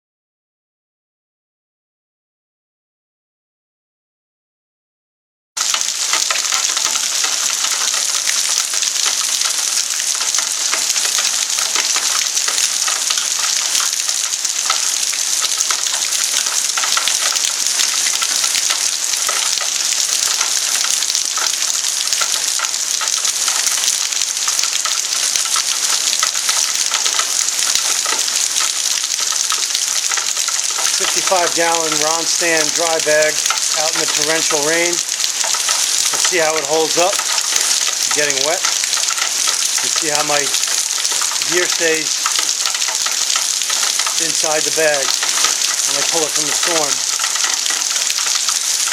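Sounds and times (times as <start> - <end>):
torrential rain pouring: 5.6 - 48.9.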